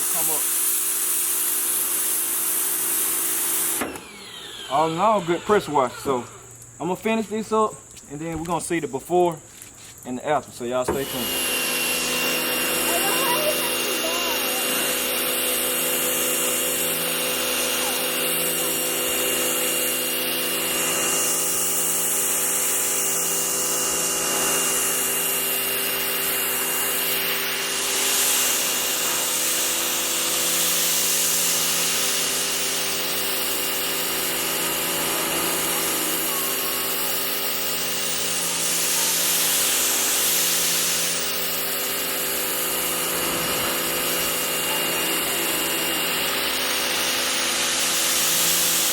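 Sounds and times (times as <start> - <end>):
water spray hissing on car: 0.0 - 3.8, 12.8 - 48.9
pressure washer motor humming: 0.0 - 7.5, 10.7 - 48.9.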